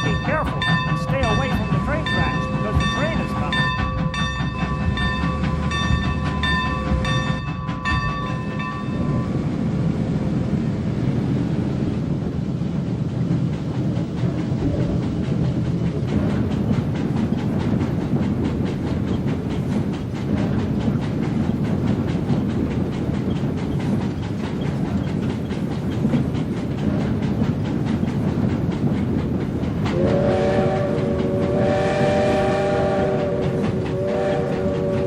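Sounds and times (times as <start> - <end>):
steam locomotive chugging: 0.0 - 35.0.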